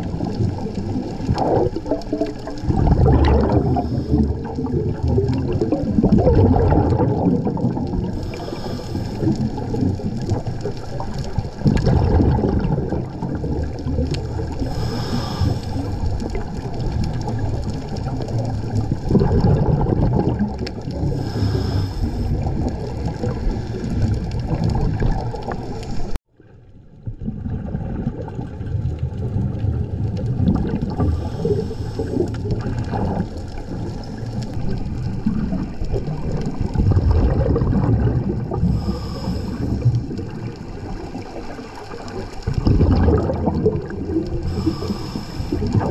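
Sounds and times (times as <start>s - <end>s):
regulator bubbling: 0.0s - 26.1s, 27.1s - 45.9s
underwater rumbling wash: 0.0s - 45.9s.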